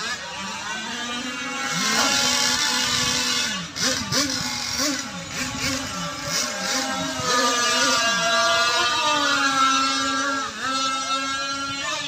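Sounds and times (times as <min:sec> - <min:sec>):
model boat motors whining: 0:00.0 - 0:12.0.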